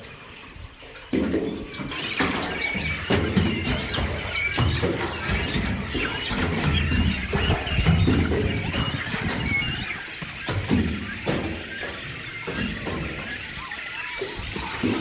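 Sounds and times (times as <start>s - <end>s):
waterbirds squealing and calling: 0.0s - 15.0s.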